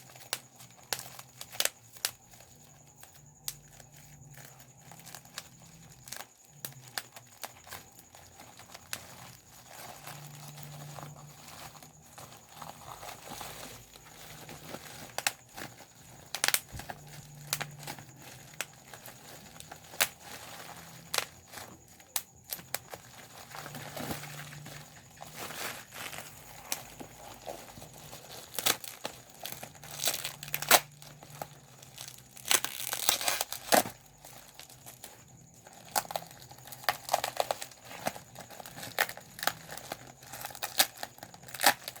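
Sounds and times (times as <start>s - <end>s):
bubble wrap popping: 0.0s - 42.0s
plastic sheet crinkling: 0.0s - 42.0s.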